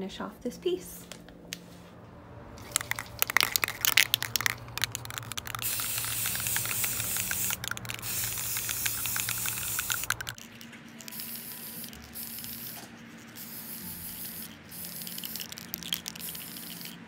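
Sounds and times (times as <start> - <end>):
aerosol can rattling clicks: 2.6 - 17.0
spray can hissing: 2.6 - 17.0.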